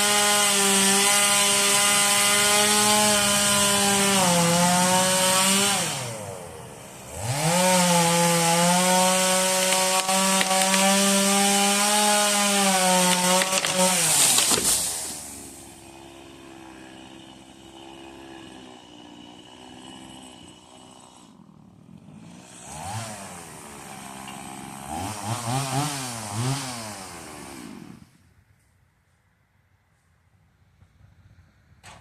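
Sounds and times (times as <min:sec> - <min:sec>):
chainsaw idling: 0:00.0 - 0:28.2
chainsaw cutting wood: 0:00.0 - 0:28.3.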